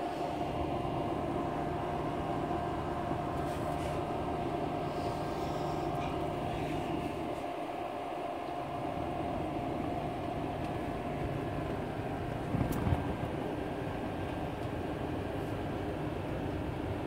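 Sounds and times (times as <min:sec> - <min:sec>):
faint hum: 0:00.0 - 0:17.0
low background rumble: 0:00.0 - 0:17.0.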